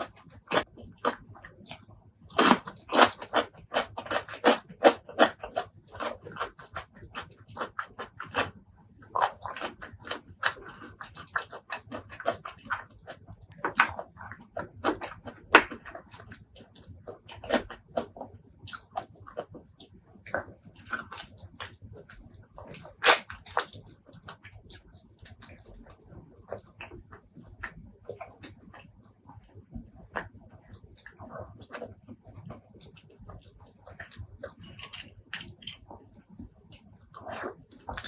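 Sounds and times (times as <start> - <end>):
wet chewing and lip smacking: 0.0 - 28.9, 29.8 - 38.0.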